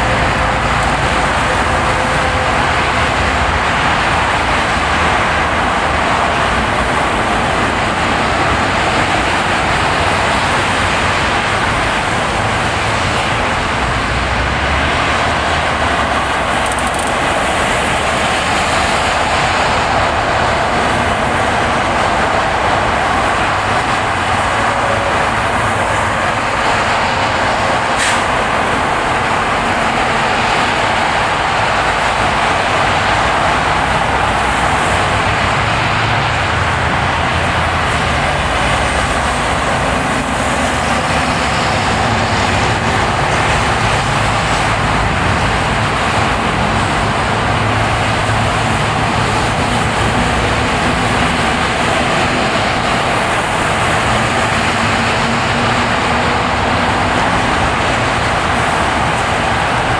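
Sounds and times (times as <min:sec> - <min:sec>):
car driving road noise: 0:00.0 - 0:59.9.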